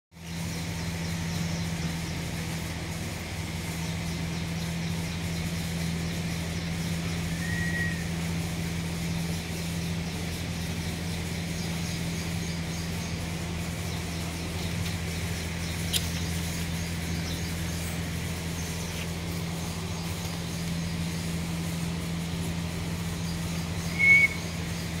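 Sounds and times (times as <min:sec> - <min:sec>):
low mechanical hum: 0:00.2 - 0:25.0.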